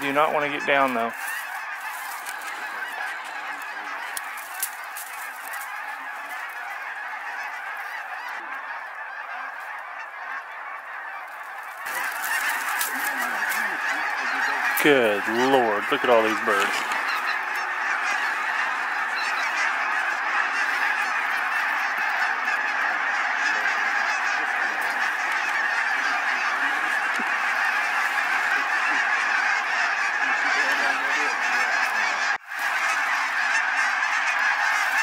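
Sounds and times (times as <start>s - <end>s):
flock of geese calling: 0.0s - 35.0s.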